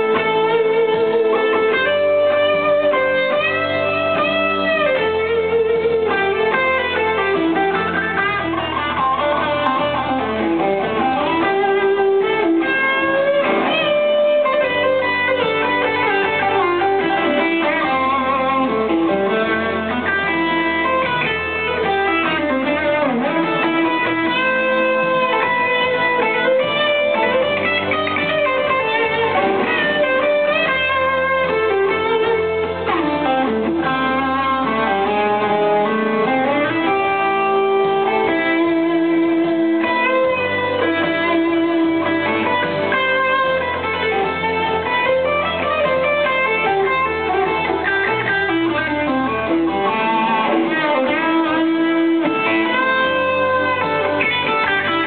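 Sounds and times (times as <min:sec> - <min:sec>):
electric guitar blues lead: 0:00.0 - 0:55.0.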